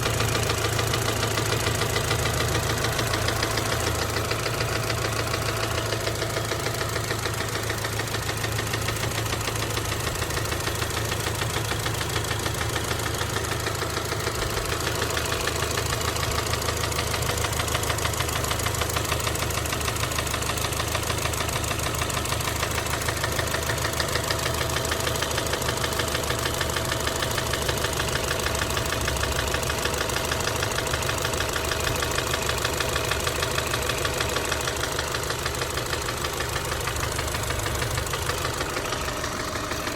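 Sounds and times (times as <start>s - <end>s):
car engine idling: 0.0s - 39.9s
rapid engine knocking: 0.0s - 39.9s.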